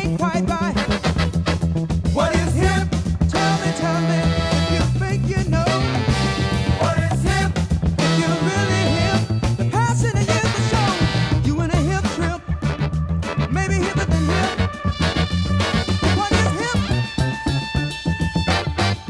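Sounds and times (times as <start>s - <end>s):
upbeat ska song with singing: 0.0s - 19.0s.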